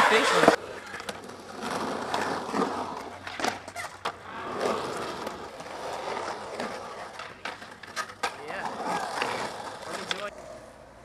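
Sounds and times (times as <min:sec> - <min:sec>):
skateboard clacks: 0:00.0 - 0:10.9
skateboard wheels rolling on concrete: 0:00.0 - 0:11.0.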